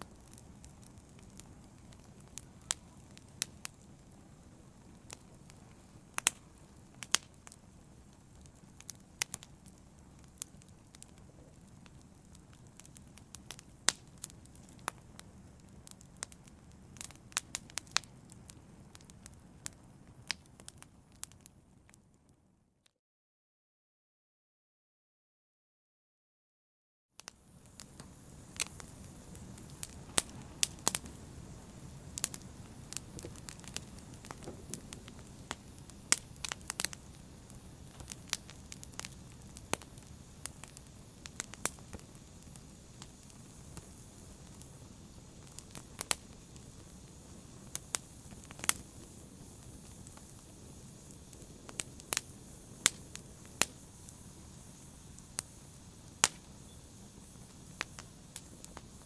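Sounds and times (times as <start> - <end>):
fire popping and crackling: 0.0 - 22.2, 27.2 - 59.0
fire rumbling and hissing: 0.0 - 22.2, 27.2 - 59.0.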